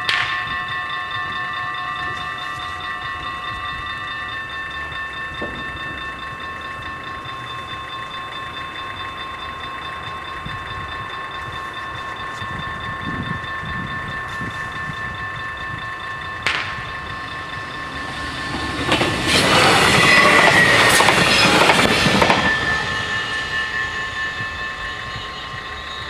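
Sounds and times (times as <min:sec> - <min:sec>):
level crossing warning bells: 0:00.0 - 0:26.0.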